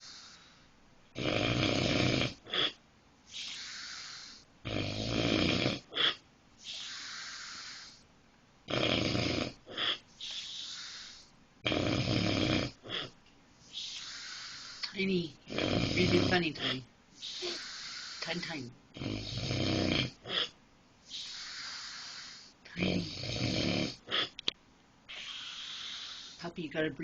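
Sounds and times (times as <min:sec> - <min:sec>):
heavy snoring: 0:00.0 - 0:00.6, 0:01.2 - 0:08.0, 0:08.7 - 0:13.2, 0:13.8 - 0:24.4, 0:25.1 - 0:26.4.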